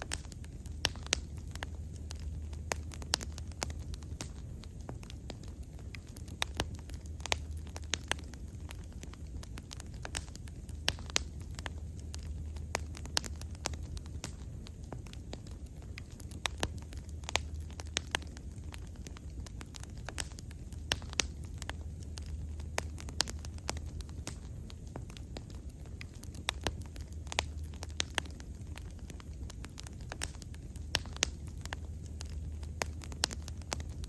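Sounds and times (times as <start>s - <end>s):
low rumble of flames: 0.0s - 34.0s
wood crackling and popping: 0.0s - 34.0s.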